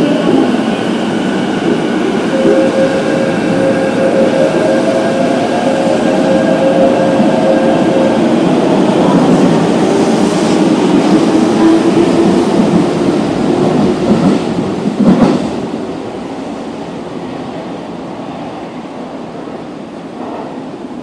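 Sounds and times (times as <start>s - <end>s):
subway train passing: 0.0s - 21.0s.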